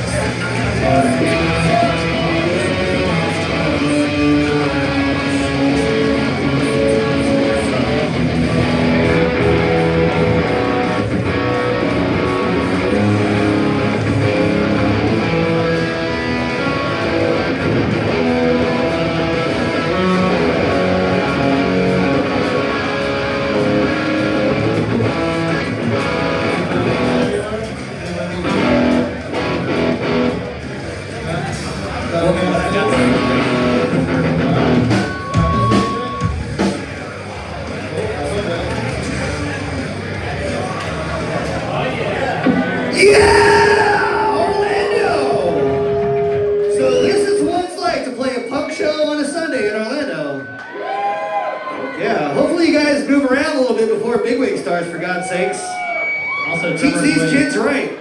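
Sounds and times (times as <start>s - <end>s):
punk band with electric guitars: 0.0s - 51.0s, 54.6s - 58.0s.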